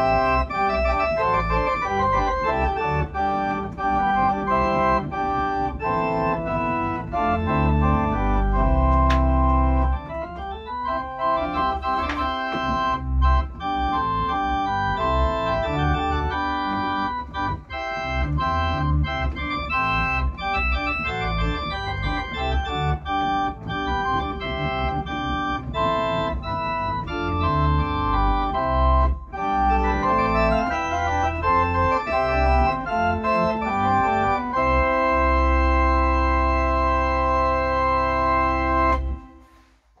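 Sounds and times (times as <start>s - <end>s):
organ playing chords: 0.0s - 39.5s.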